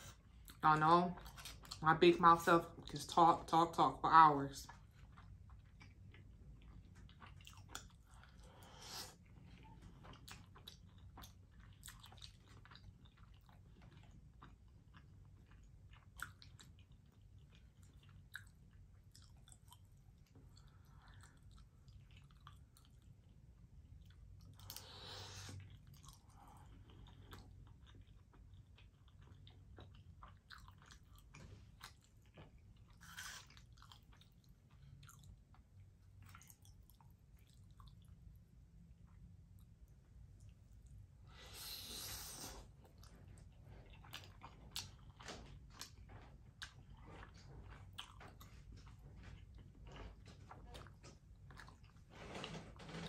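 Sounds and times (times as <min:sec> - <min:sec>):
person chewing: 0:04.7 - 0:38.2, 0:40.4 - 0:52.1.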